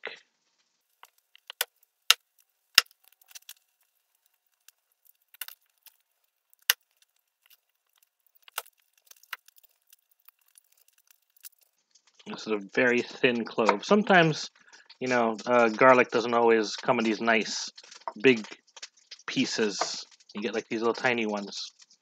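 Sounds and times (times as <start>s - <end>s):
garlic skin crackling: 0.8s - 22.0s.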